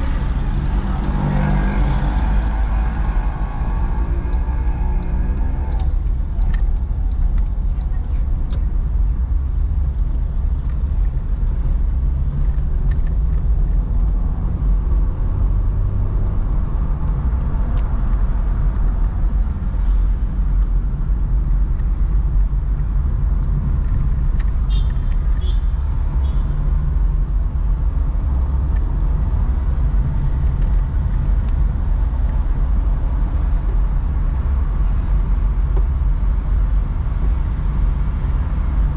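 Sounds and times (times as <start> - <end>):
car engine and road noise: 0.0 - 38.9
passing vehicles: 0.0 - 38.9.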